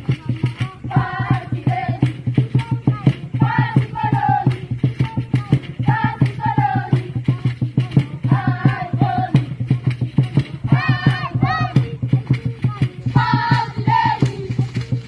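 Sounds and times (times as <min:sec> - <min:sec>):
group of voices singing: 0:00.0 - 0:15.0
quick percussive beat: 0:00.0 - 0:15.0.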